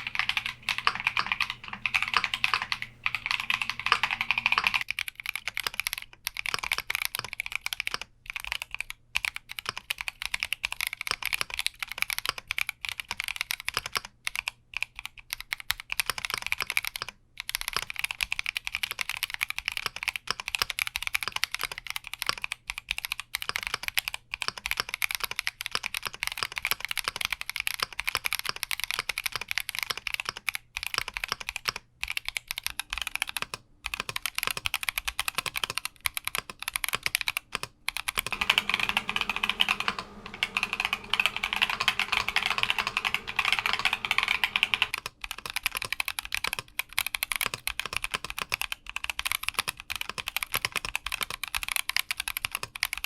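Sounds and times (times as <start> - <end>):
fast typing on mechanical keyboard: 0.0 - 53.0.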